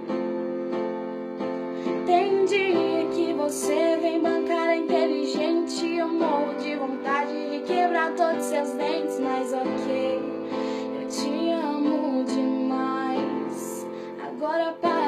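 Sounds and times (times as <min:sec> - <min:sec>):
pop song with woman singing: 0:01.7 - 0:15.0.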